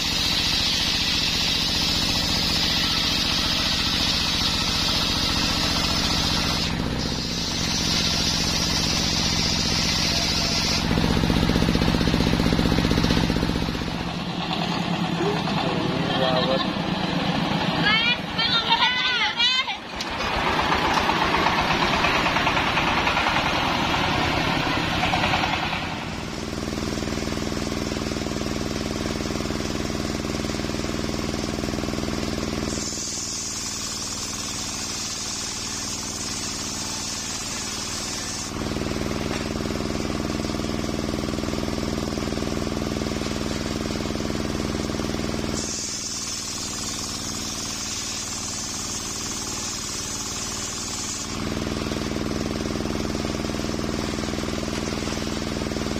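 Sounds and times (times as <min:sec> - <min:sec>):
diesel engine running: 0:00.0 - 0:55.9
saw blade cutting log whine: 0:00.0 - 0:55.9.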